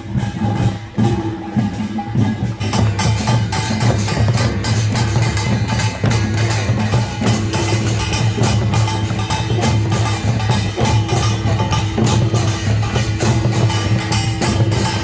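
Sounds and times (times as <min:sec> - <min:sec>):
folk percussion ensemble playing: 0:00.0 - 0:15.0.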